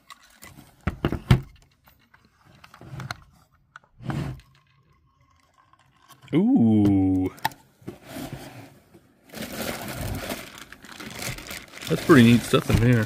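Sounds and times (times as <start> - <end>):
rustling and scraping: 0.0 - 6.2, 7.8 - 13.0.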